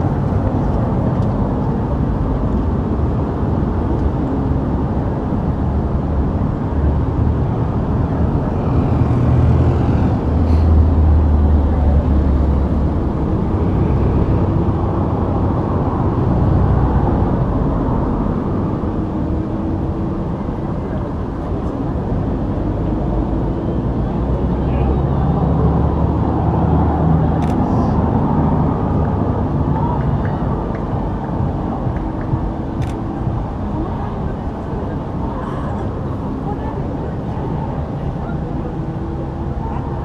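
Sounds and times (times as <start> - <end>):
road traffic rumble: 0.0 - 40.0
heavy vehicle passing: 5.8 - 40.0.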